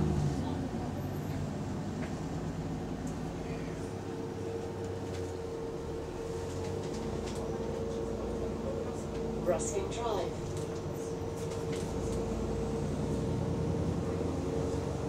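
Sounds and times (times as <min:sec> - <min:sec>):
bus engine rumble: 0:00.0 - 0:15.0
constant whine: 0:00.4 - 0:15.0.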